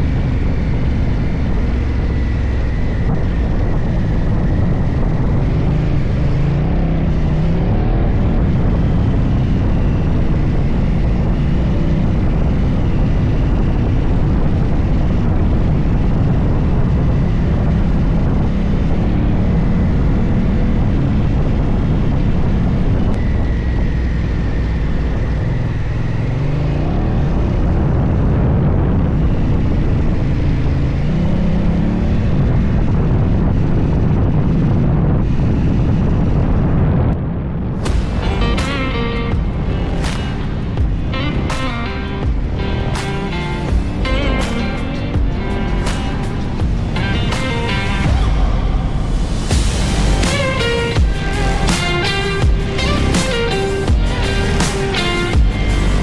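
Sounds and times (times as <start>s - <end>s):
motorcycle engine revving: 0.0s - 36.2s, 37.7s - 56.0s.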